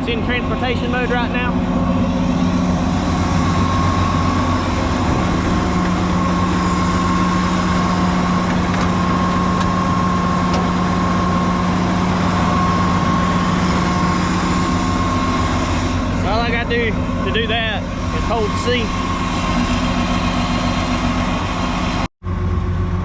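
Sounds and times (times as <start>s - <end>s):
thin high whine: 0.0s - 22.1s
diesel engine idling: 0.0s - 23.0s.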